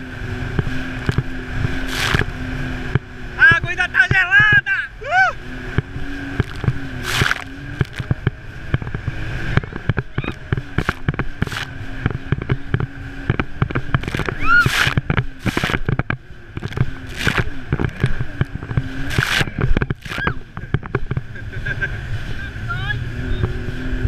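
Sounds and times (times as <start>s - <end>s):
water slapping against hull: 0.0s - 4.7s, 5.6s - 21.5s
jet ski engine drone: 0.0s - 24.0s.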